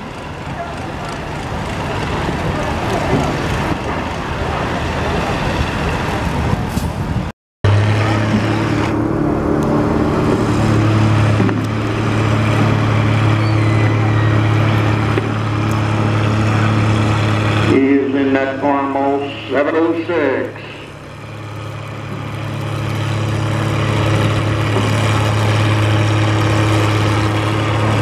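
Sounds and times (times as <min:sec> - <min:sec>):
tractor engines under load: 0:00.0 - 0:28.0.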